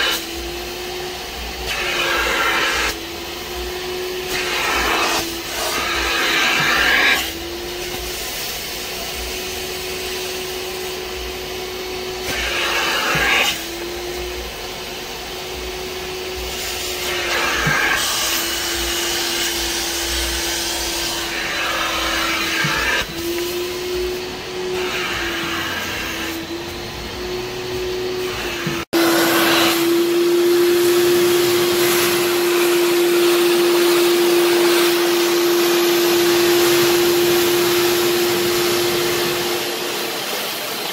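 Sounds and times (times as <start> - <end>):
spray extractor suction motor: 0.0 - 40.9.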